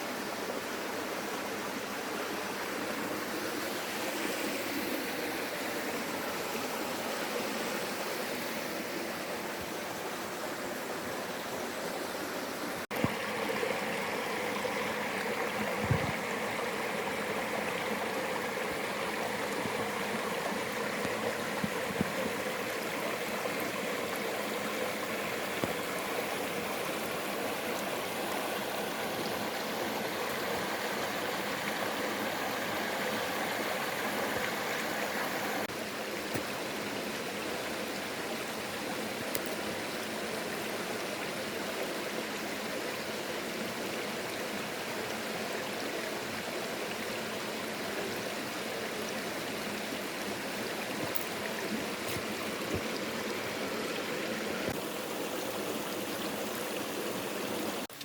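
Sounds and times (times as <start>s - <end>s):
water rushing over rocks: 0.1s - 42.2s, 42.8s - 58.0s.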